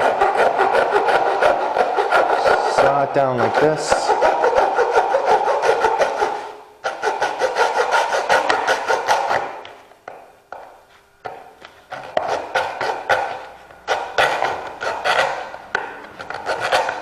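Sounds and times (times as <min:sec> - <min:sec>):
hacksaw sawing plastic: 0:00.0 - 0:09.7, 0:11.9 - 0:17.0.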